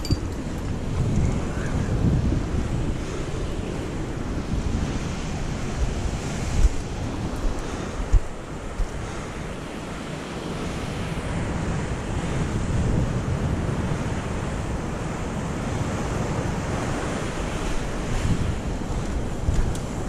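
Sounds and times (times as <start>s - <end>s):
sea surf washing against rocks: 0.0s - 20.0s
wind rumbling on microphone: 0.0s - 20.0s.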